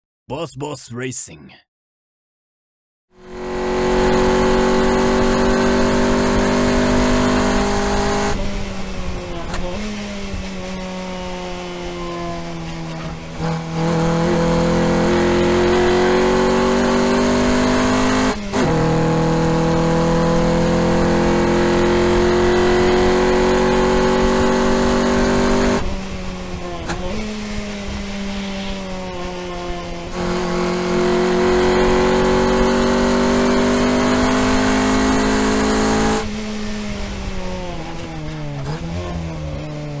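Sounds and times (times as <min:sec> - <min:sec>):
car engine revving: 0:03.2 - 0:40.0.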